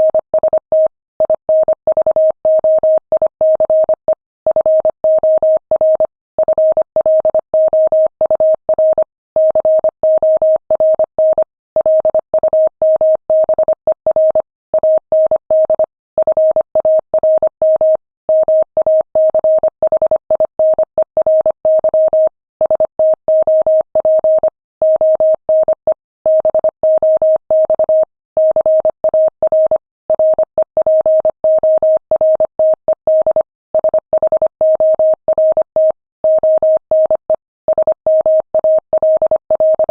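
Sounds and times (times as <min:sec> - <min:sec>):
morse code beeps: 0:00.0 - 0:39.9.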